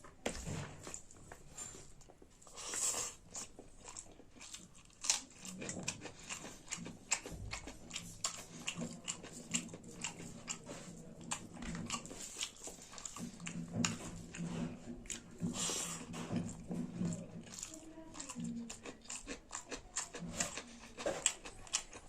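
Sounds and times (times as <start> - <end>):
person chewing food: 0.8 - 22.0.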